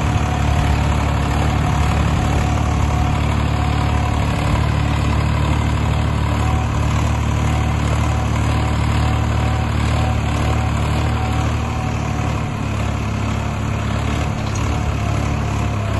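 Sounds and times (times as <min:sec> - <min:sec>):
tractor diesel engine under load: 0:00.0 - 0:15.9.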